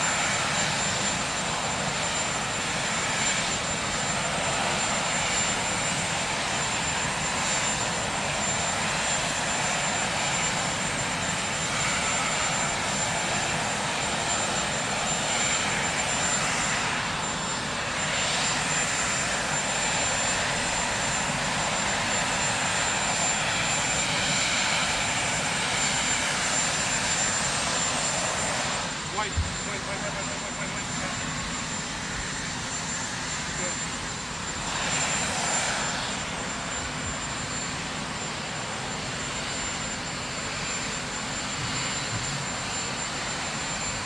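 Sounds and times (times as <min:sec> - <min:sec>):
helicopter turbine engines running: 0:00.0 - 0:44.0.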